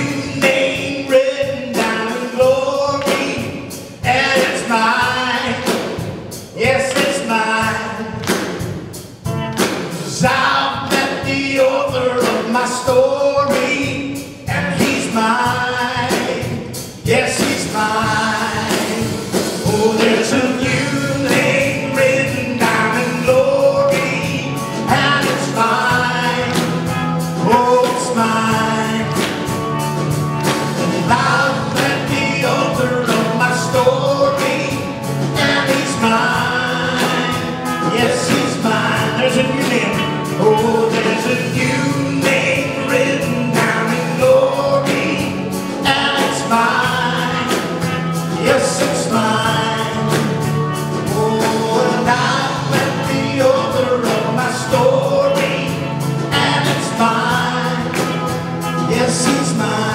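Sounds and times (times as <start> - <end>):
man singing: 0.0 - 8.7, 9.9 - 59.9
electric guitar: 0.0 - 59.9.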